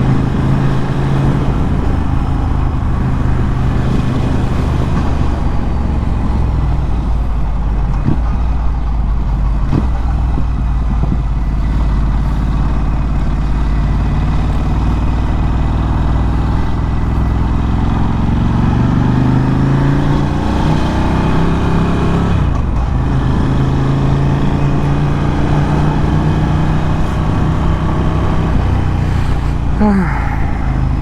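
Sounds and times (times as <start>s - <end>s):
motorcycle engine riding: 0.0s - 31.0s.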